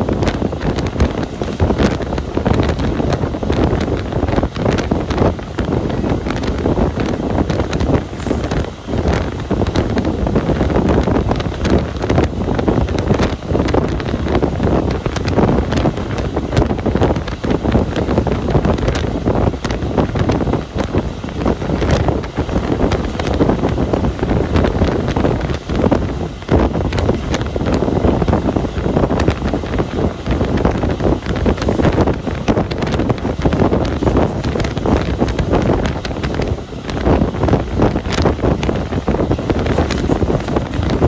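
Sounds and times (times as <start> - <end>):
train rumble: 0.0 - 41.0
wind buffeting microphone: 0.0 - 41.0.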